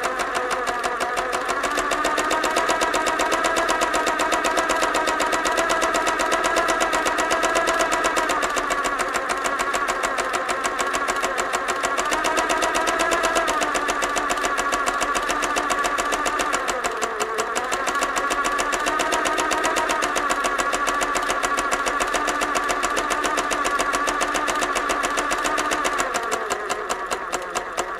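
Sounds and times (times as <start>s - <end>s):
sewing machine stitching: 0.0s - 27.9s.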